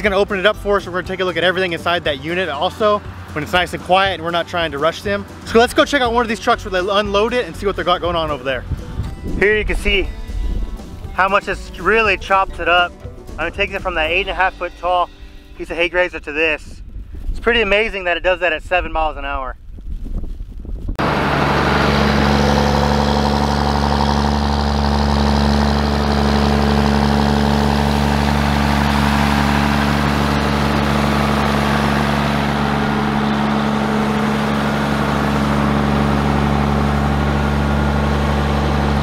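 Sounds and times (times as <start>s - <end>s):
tractor diesel engine under load: 0.0s - 14.6s, 21.0s - 39.0s.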